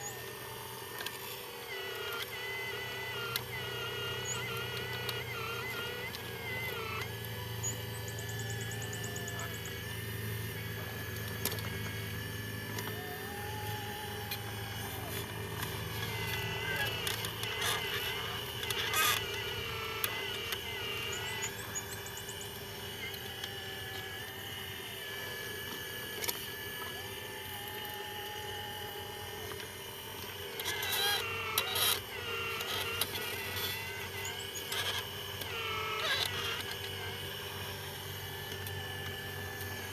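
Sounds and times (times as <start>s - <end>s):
small electric motors whirring: 0.0s - 39.9s
wavering whine: 0.0s - 39.9s.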